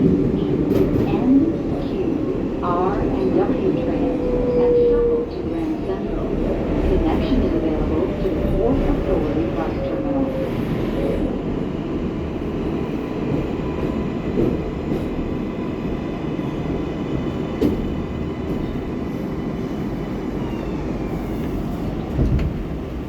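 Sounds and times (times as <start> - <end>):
subway wheels rumbling on rail: 0.0 - 23.0.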